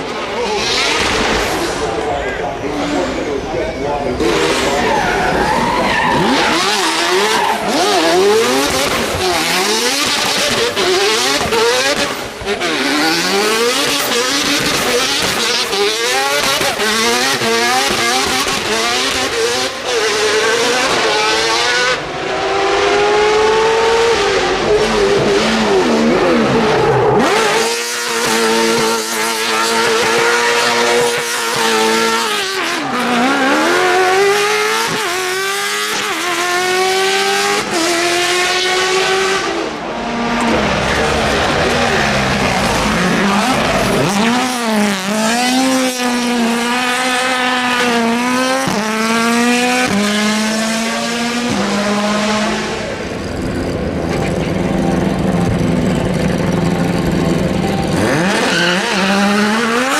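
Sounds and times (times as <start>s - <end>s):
racing car engine accelerating: 0.0s - 59.9s.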